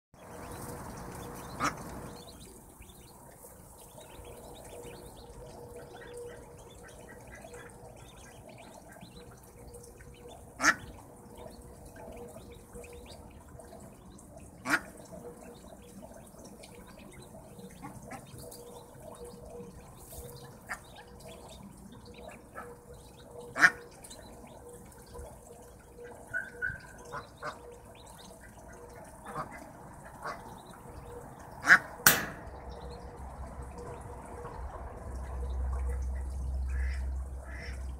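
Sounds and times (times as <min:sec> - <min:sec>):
ducklings peeping: 0:00.2 - 0:37.9
ducks quacking: 0:00.4 - 0:32.8, 0:34.0 - 0:37.9.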